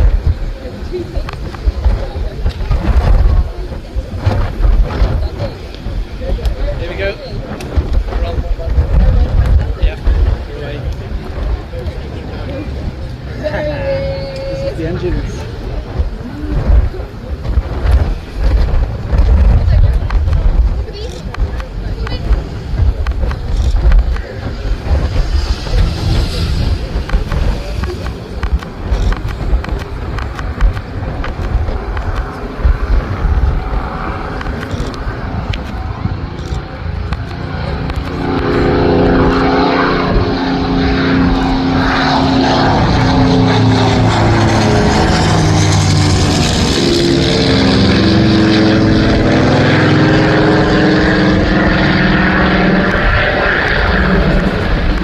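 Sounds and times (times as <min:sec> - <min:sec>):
propeller plane passing: 0:00.0 - 0:55.0
wind buffeting microphone: 0:00.0 - 0:55.0.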